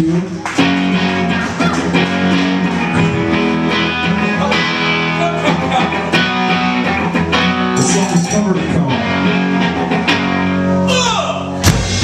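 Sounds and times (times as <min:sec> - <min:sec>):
guitar strumming chords: 0:00.0 - 0:10.9.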